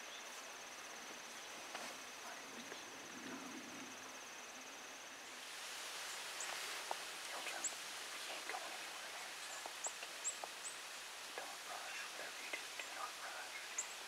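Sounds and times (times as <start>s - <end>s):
faint ticks and rustles: 0.0s - 4.7s, 5.3s - 14.0s
steady hiss: 0.0s - 14.0s.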